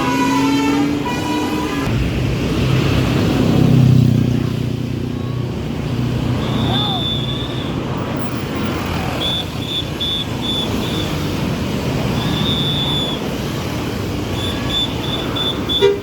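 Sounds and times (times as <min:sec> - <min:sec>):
bus engines running: 0:00.0 - 0:16.0
road traffic: 0:00.0 - 0:16.0.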